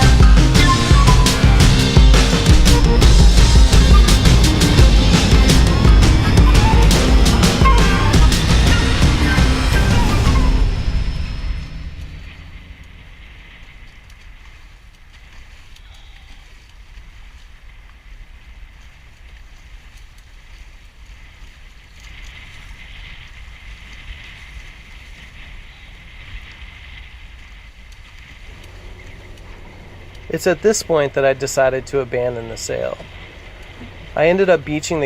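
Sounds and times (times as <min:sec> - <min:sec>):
water rushing past hulls: 0:00.0 - 0:35.0
wind buffeting microphone: 0:00.0 - 0:35.0.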